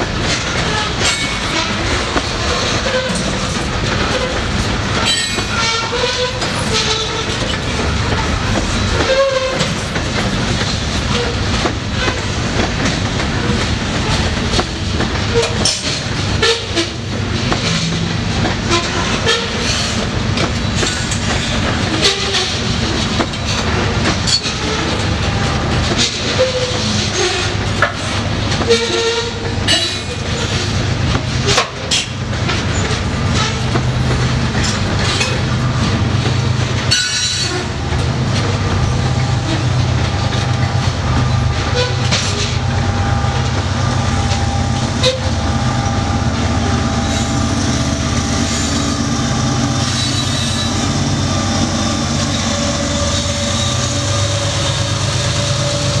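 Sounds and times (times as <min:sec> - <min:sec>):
diesel locomotive passing: 0:00.0 - 0:56.0
freight train rumble: 0:00.0 - 0:56.0
train wheels clacking over rail joints: 0:00.0 - 0:56.0.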